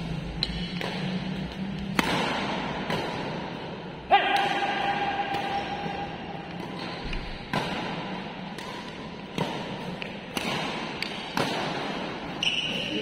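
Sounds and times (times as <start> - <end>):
rackets hitting shuttlecock: 0.1 - 13.0.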